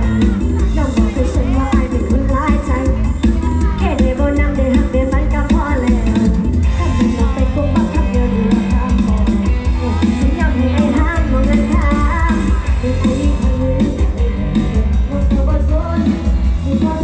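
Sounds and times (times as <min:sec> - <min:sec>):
loud dance music with singer: 0:00.0 - 0:17.0.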